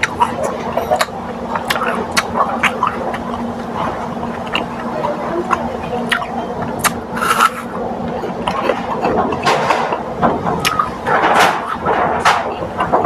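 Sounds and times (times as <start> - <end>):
low hum: 0.0 - 13.0
mouth clicks: 0.0 - 13.0
person chewing food: 0.0 - 13.0.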